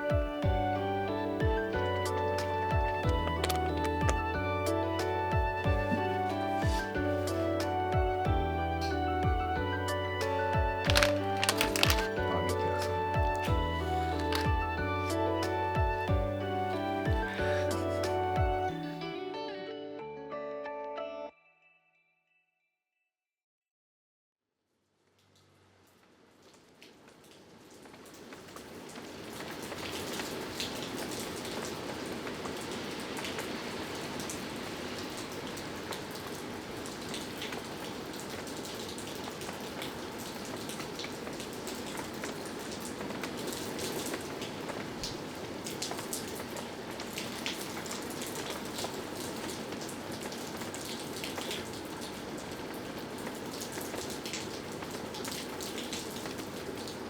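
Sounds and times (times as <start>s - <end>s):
rain falling: 0.0s - 19.0s, 25.2s - 57.0s.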